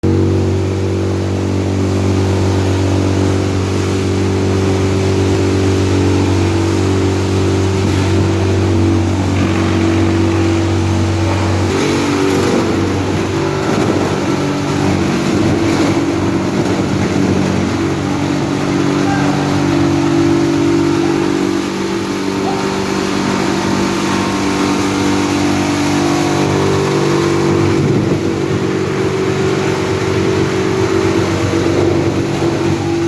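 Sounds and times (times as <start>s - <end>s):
wood chipper engine running: 0.0s - 33.0s.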